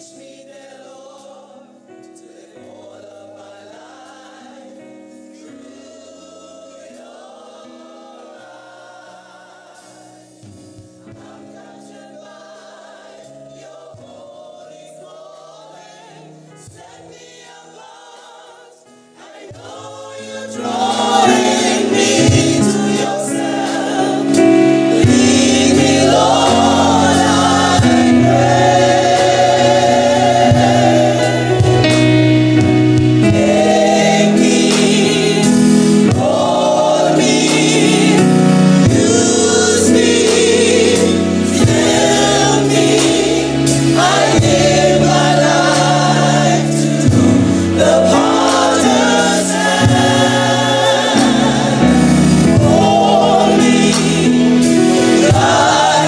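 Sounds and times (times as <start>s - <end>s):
choir singing gospel song: 0.0s - 56.0s.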